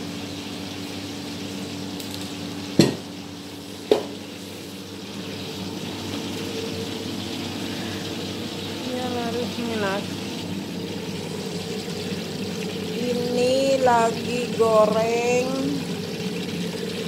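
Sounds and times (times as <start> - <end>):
cauliflower sizzling in oil: 0.0 - 17.0.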